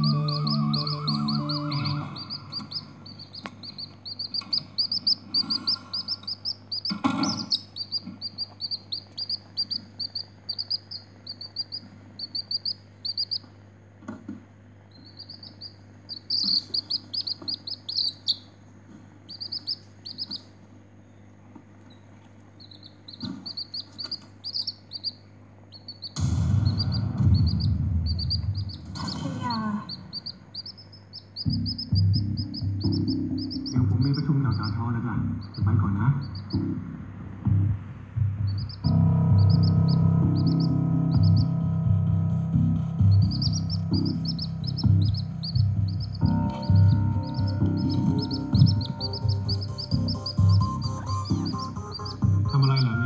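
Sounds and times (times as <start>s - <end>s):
chick peeping: 0.0s - 13.6s, 14.9s - 18.6s, 19.2s - 20.6s, 21.8s - 53.0s.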